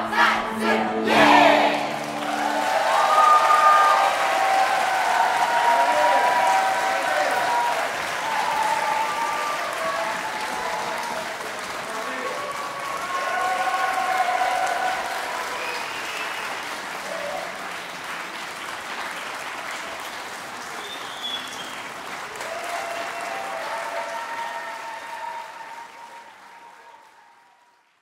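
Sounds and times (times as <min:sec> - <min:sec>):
audience applauding: 0:01.2 - 0:28.0.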